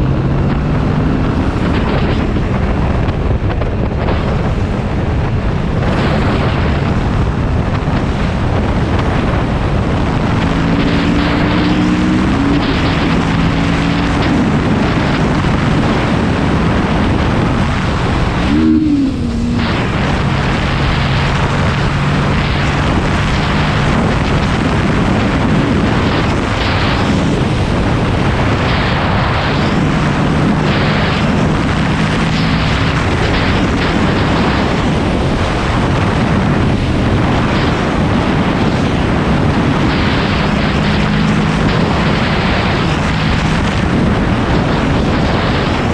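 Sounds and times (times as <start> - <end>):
motorcycle engine: 0.0 - 45.9
wind rush over microphone: 0.0 - 45.9.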